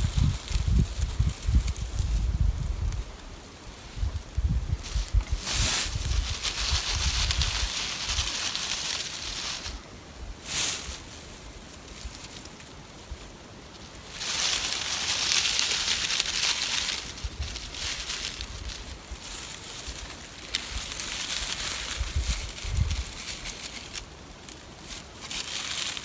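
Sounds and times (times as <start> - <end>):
dry leaf tinder rustling: 0.0 - 26.0.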